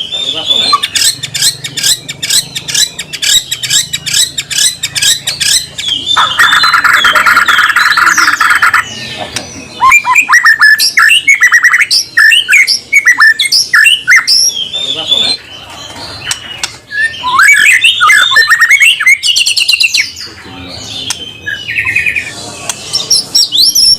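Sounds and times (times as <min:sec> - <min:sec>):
songbird singing: 0:00.0 - 0:23.9.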